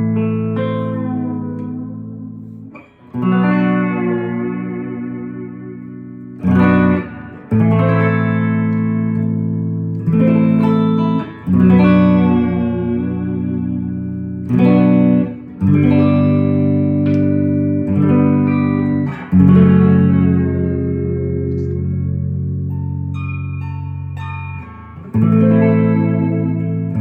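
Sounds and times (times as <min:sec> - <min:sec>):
electric guitar strumming chords: 0:00.0 - 0:27.0.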